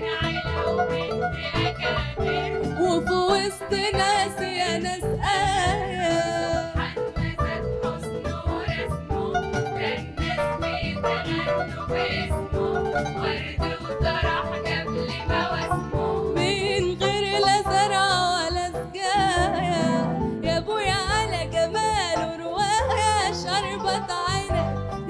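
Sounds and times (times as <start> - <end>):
plucked strings: 0.0 - 25.0.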